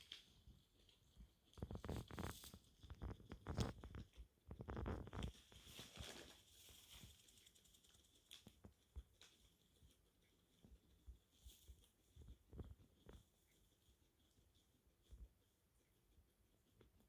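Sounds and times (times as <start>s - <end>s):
guinea pig rustling in bedding: 0.0s - 17.0s.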